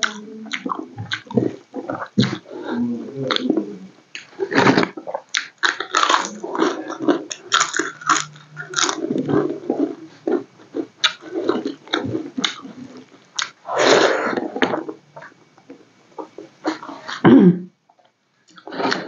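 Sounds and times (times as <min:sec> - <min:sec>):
person chewing crunchy food: 0:00.0 - 0:17.2.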